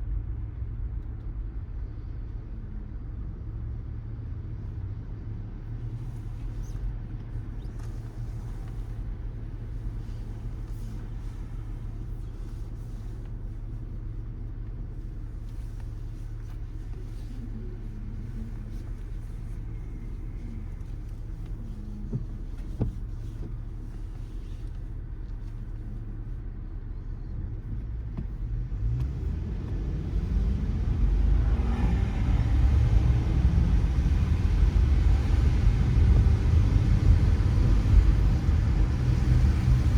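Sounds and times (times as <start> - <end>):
car driving on wet road: 3.4 - 39.9.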